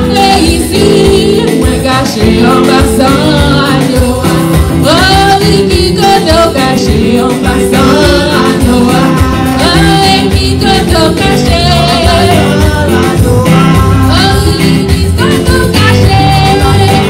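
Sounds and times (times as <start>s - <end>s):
instrumental accompaniment with bass: 0.0s - 17.0s
women singing gospel: 0.0s - 17.0s.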